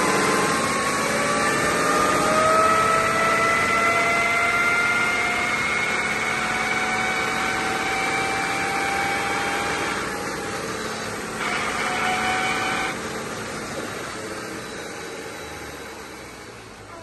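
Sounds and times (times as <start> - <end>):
differential gear whine: 0.0 - 17.0.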